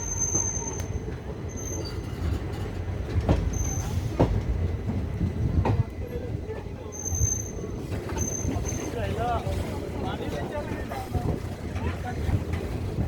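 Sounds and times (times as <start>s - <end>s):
wheels clacking over rail joints: 0.0s - 6.0s, 7.8s - 13.0s
train rumbling: 0.0s - 13.0s.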